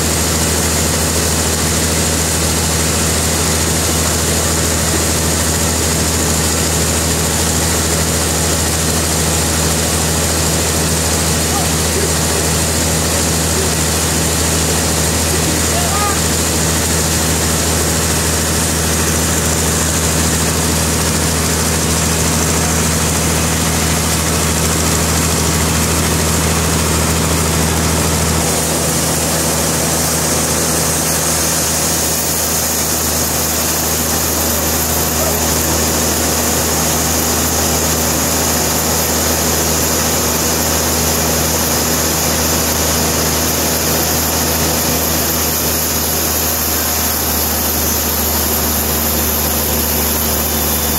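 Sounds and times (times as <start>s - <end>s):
sawmill machinery humming and whirring: 0.0s - 50.9s.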